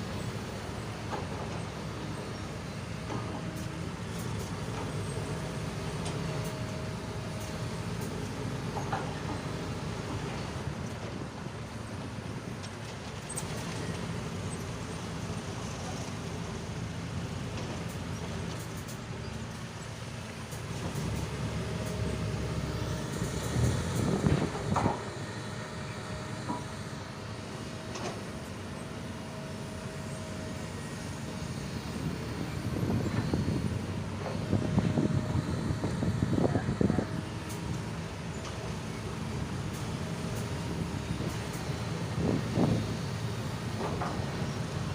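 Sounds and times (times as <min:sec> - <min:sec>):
vehicle engine rumbling: 0:00.0 - 0:44.9.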